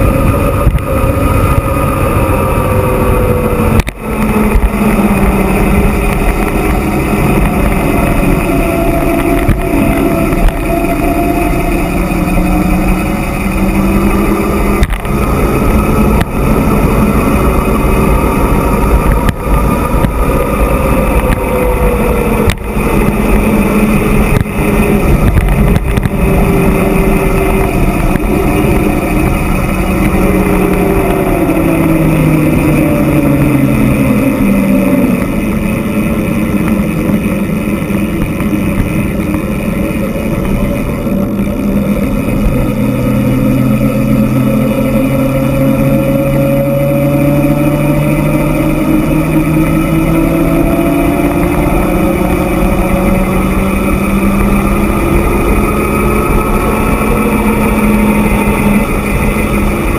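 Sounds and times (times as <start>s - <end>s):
bike rolling on pavement: 0.0s - 59.9s
motor hum rising and falling: 0.0s - 59.9s
wind on microphone: 0.0s - 59.9s.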